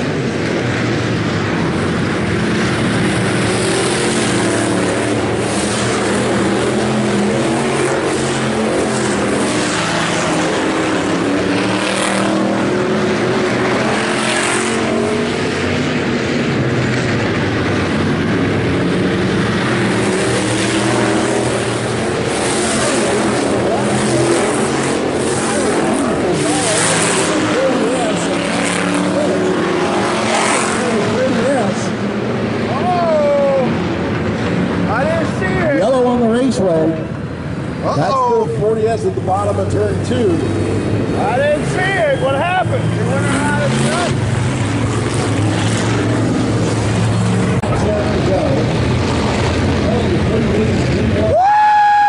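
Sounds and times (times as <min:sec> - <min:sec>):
race car engines: 0:00.0 - 0:52.0.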